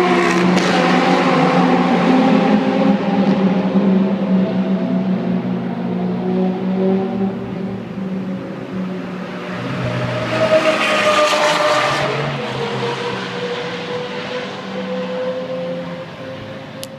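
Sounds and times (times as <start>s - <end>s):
racing car passing: 0.0s - 16.8s.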